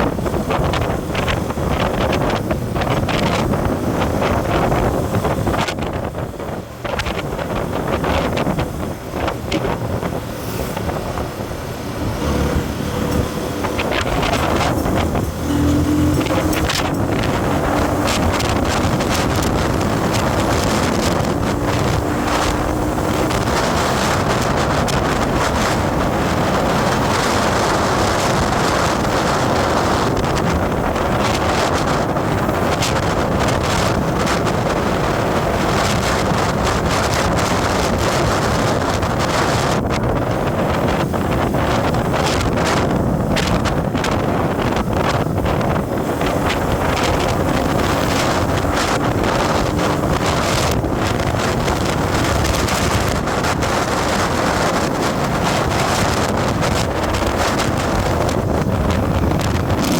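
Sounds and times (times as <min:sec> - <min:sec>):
road and vehicle noise: 0:00.0 - 0:59.9
wind rushing over microphone: 0:00.0 - 0:59.9.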